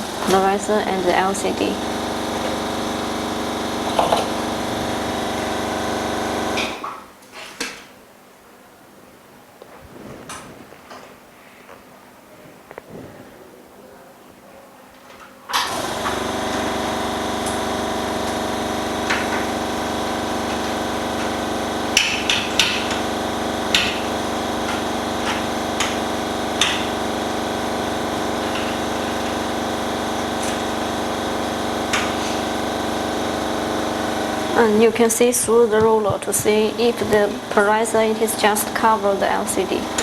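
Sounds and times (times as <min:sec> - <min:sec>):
vacuum pump humming: 0:00.0 - 0:07.2, 0:15.1 - 0:40.0.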